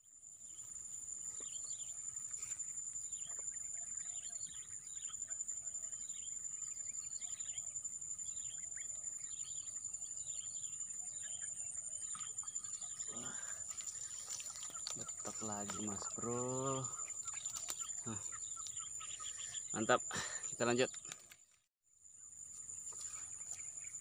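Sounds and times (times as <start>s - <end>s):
bird chirping: 0.0s - 24.0s
insect drone: 0.0s - 24.0s.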